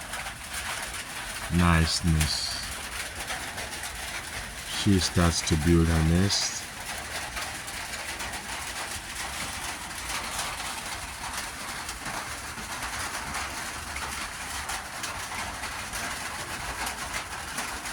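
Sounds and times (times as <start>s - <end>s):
rain on a metal roof: 0.0s - 17.9s.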